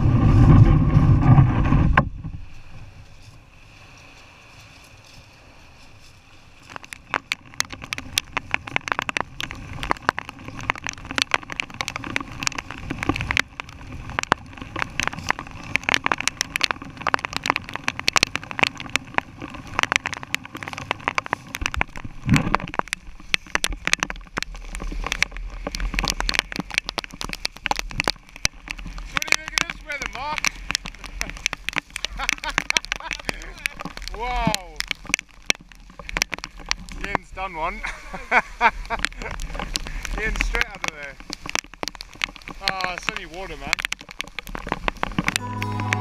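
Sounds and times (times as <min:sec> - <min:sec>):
heavy rain pattering: 0:00.0 - 0:46.0
wind rumble on microphone: 0:00.0 - 0:46.0.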